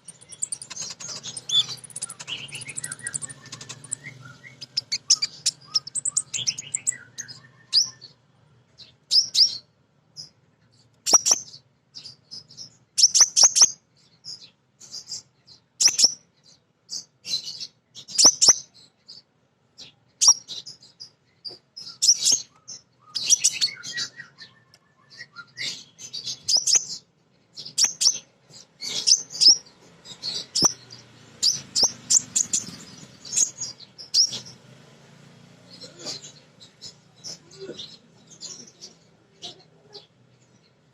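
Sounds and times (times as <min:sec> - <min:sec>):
bird high chirps and twittering: 0:00.0 - 0:40.9.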